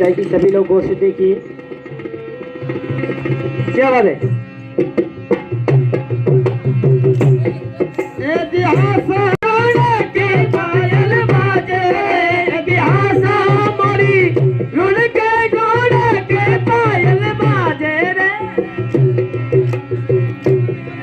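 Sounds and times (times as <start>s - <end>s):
folk melody line: 0.0s - 21.0s.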